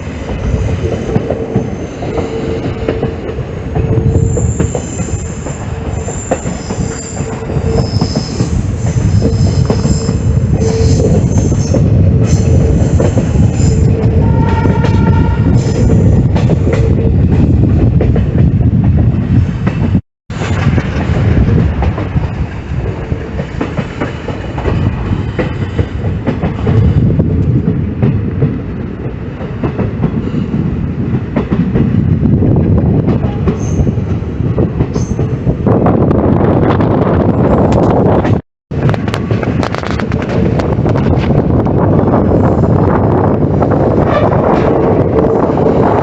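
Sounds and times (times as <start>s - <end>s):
train rumble on rails: 0.0s - 46.0s.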